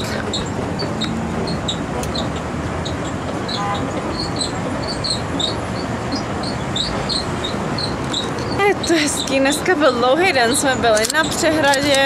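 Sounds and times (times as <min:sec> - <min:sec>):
busy street traffic: 0:00.0 - 0:12.0.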